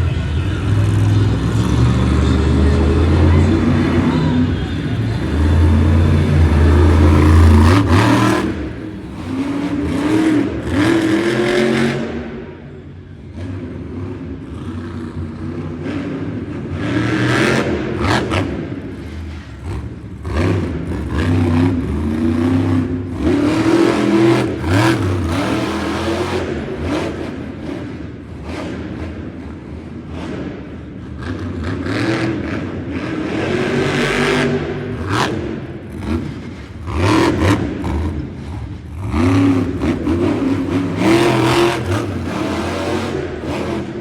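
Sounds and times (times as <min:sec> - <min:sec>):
truck engine revving hard: 0:00.0 - 0:12.6, 0:13.2 - 0:44.0.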